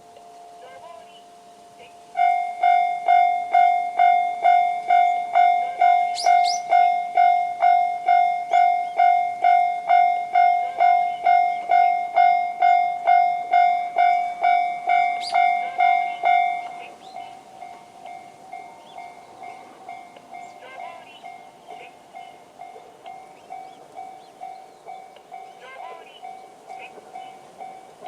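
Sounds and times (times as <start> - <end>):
level-crossing electronic bell: 0.0 - 28.0.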